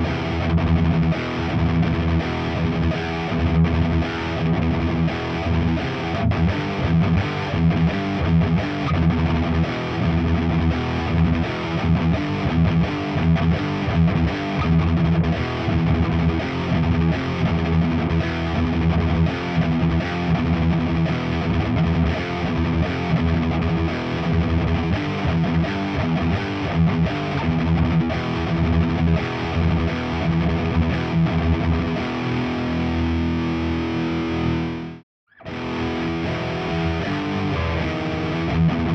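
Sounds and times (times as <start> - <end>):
electric guitar riffing: 0.0 - 38.9.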